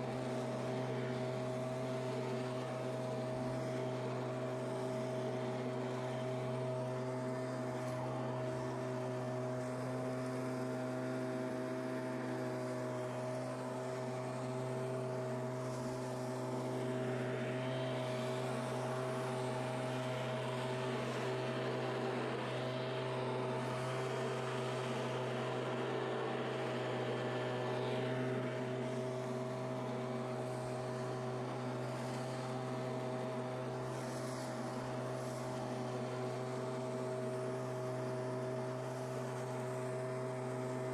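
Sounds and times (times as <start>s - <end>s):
leaf blower running: 0.0s - 40.9s.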